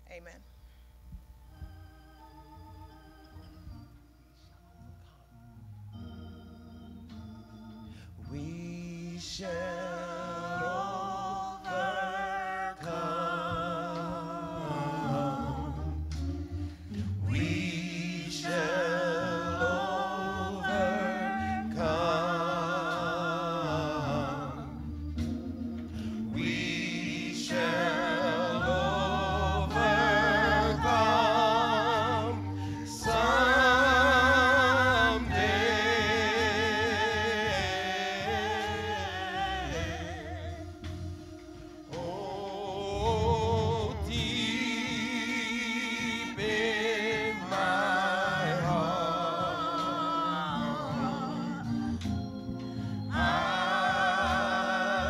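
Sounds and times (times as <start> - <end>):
gospel singing with vibrato: 0.0 - 55.0
low held accompaniment notes: 0.0 - 55.0.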